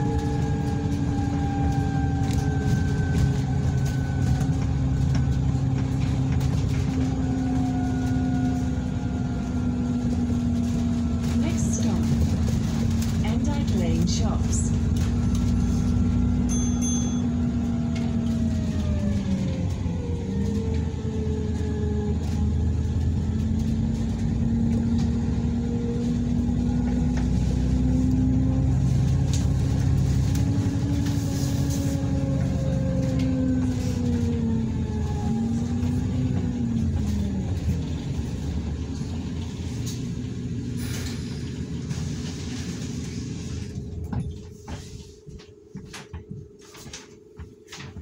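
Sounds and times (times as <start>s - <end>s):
bus engine rumbling: 0.0s - 48.0s.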